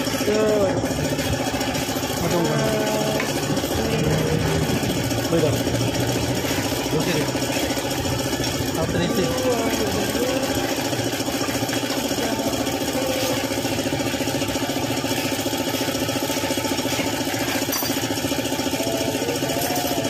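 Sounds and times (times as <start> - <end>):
three-cylinder engine idling: 0.0 - 20.0.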